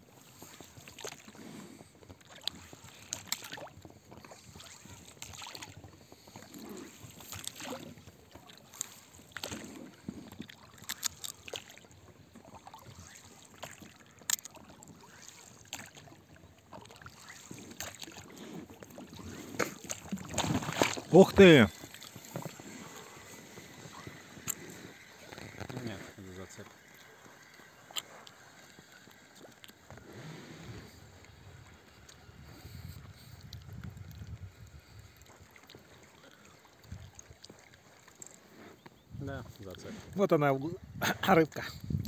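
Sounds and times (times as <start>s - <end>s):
oars dipping and dripping: 0.0s - 42.0s.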